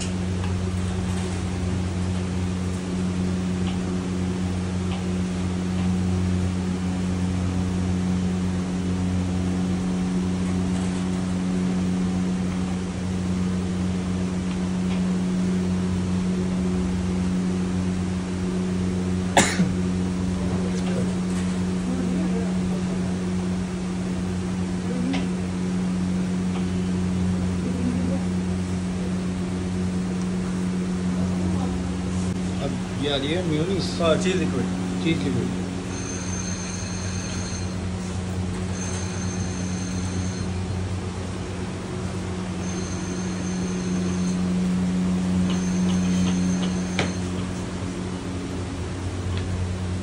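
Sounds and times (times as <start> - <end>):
low hum of kitchen machinery: 0.0 - 50.0.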